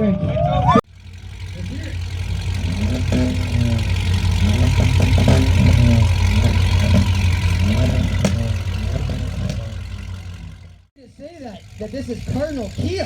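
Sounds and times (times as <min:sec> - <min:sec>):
car exhaust rumbling at idle: 0:00.8 - 0:13.0.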